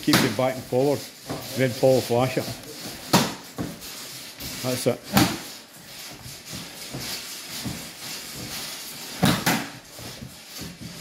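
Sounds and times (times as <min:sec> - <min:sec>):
feet shuffling on boards: 0:00.0 - 0:11.0.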